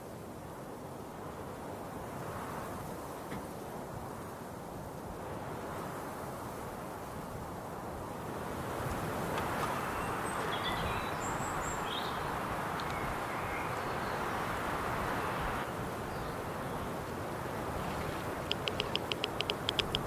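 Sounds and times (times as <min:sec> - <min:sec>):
steady hiss of noise: 0:00.0 - 0:20.0.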